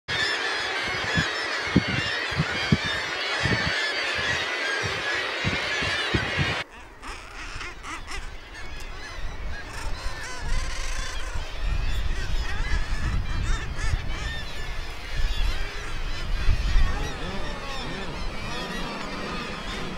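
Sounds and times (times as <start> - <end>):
seabirds calling: 0.1 - 19.9.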